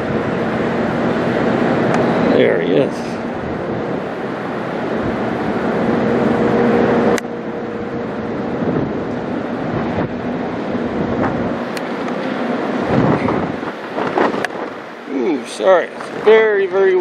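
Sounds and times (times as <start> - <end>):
jet plane flying overhead: 0.0 - 17.0
wind buffeting microphone: 0.0 - 17.0.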